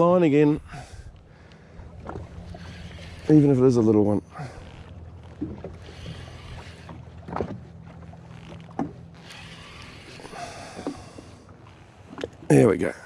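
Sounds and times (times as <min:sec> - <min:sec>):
jet ski engine idling: 0:00.0 - 0:13.0
water noise: 0:00.0 - 0:13.0
wind: 0:00.0 - 0:13.0.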